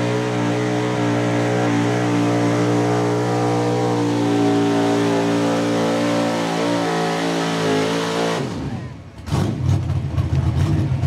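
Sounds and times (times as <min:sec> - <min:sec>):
vehicle engine running at high revs: 0:00.0 - 0:11.0.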